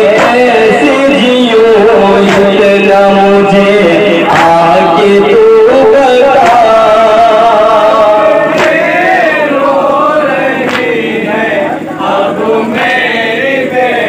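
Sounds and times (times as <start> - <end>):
sharp beat: 0.0 - 13.4
man chanting a lament: 0.0 - 14.0.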